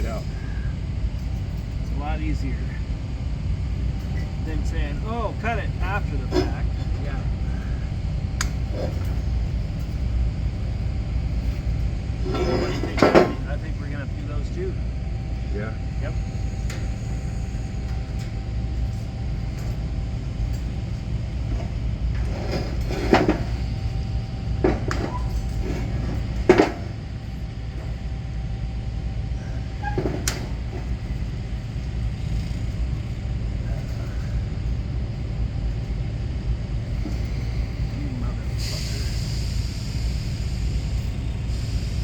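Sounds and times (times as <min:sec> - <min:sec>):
faint hum: 0:00.0 - 0:42.0
steady low rumble: 0:00.0 - 0:42.0.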